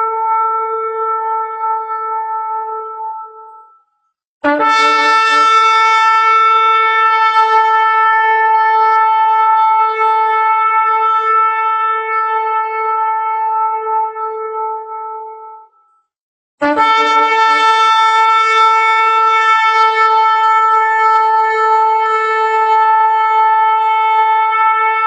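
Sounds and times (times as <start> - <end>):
shofar horn blast: 0.0 - 3.7, 4.4 - 15.8, 16.6 - 25.0.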